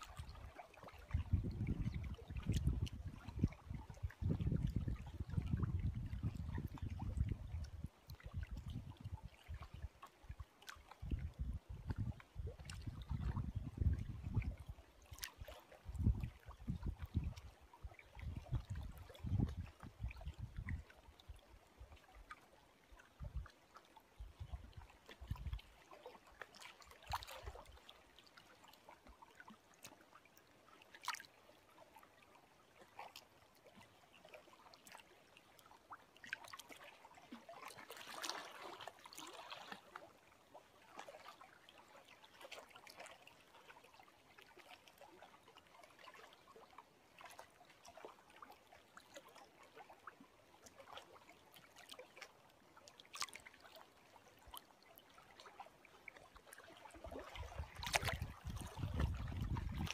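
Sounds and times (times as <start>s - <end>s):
small lake waves lapping: 0.0s - 59.9s
water trickles and splashes: 0.0s - 59.9s.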